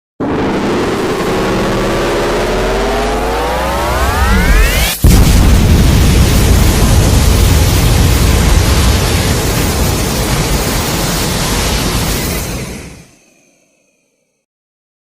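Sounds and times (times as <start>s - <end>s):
ray gun beam firing: 0.6s - 13.3s.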